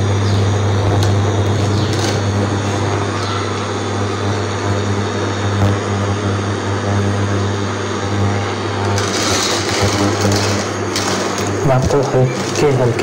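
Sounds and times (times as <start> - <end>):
cooktop electrical hum: 0.0 - 13.0
fan noise: 0.0 - 13.0.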